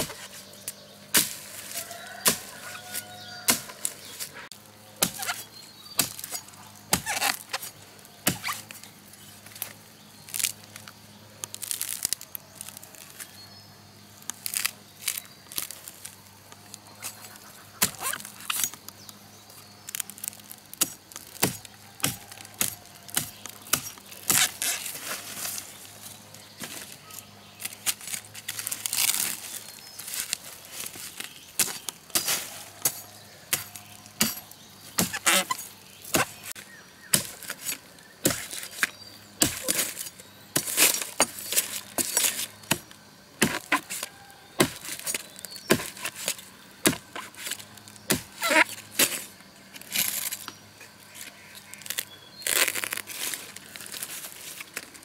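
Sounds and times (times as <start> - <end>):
blade chopping tubers: 0.0 - 4.3, 4.9 - 13.4, 14.2 - 55.0.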